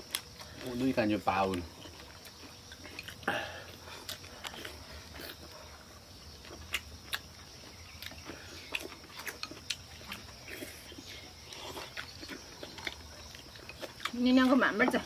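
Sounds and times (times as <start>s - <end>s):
chewing and slurping: 0.0s - 15.0s.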